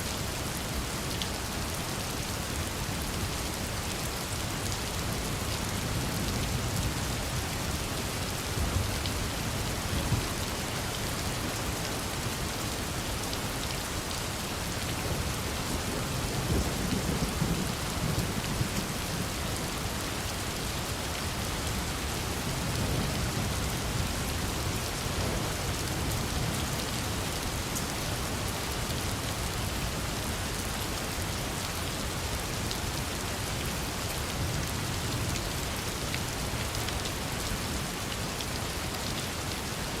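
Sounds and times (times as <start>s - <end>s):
rain pattering: 0.1s - 40.0s.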